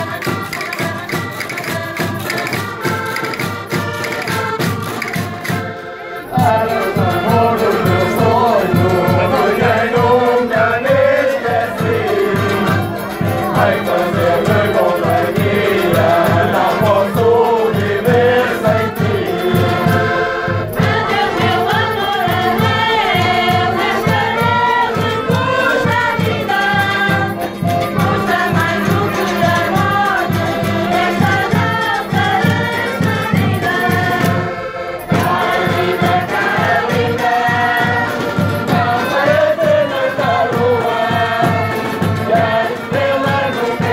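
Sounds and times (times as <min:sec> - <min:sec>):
button accordions playing: 0:00.0 - 0:43.9
group singing in chorus: 0:00.0 - 0:43.9.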